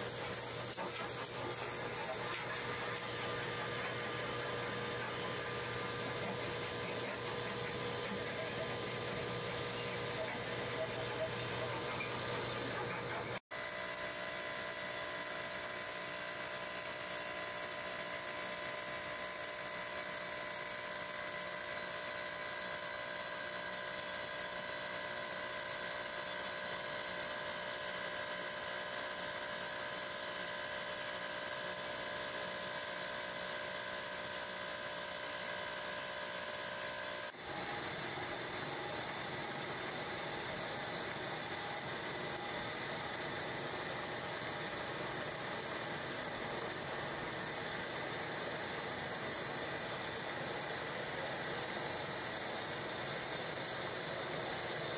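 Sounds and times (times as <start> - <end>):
machinery high-pitched whine: 0.0 - 26.9, 34.4 - 54.9
rough noisy machine: 0.0 - 54.9.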